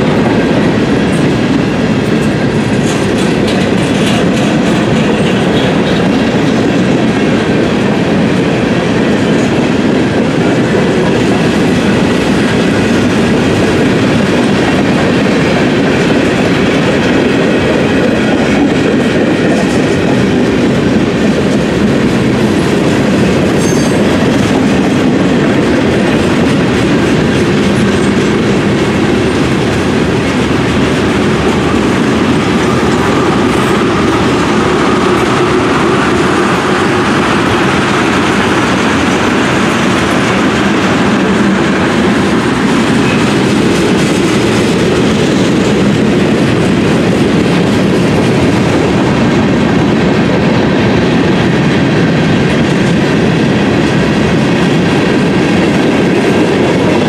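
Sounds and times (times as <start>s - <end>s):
freight train wheels clattering: 0.0s - 57.0s.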